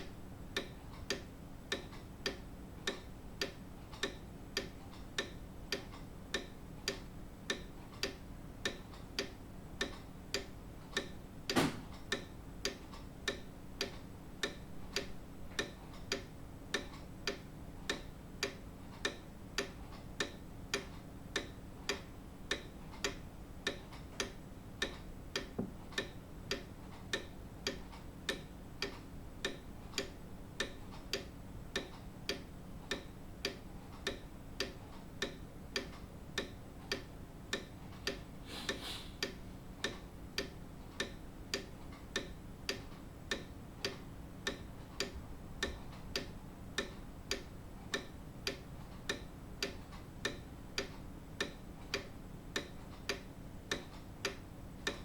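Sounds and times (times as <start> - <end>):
grandfather clock ticking: 0.0 - 38.3, 39.2 - 55.0.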